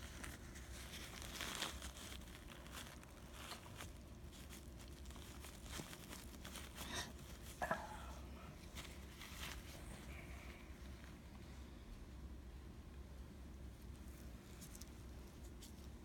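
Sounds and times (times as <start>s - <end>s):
paper tissue rustling: 0.0s - 11.6s, 13.7s - 16.0s.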